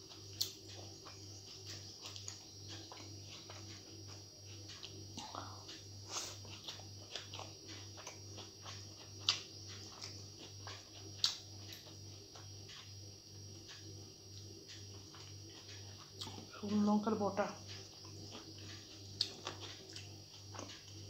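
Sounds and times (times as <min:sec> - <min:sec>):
person chewing with mouth clicks: 0:00.0 - 0:16.5, 0:17.6 - 0:21.0
steady low hum: 0:00.0 - 0:21.0.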